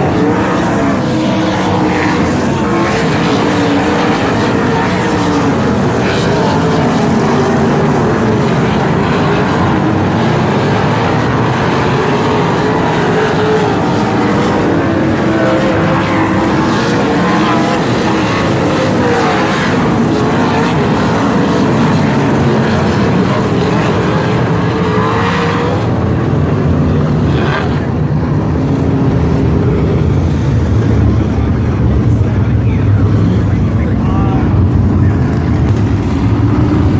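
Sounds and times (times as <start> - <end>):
racing car engines droning: 0.0 - 36.9.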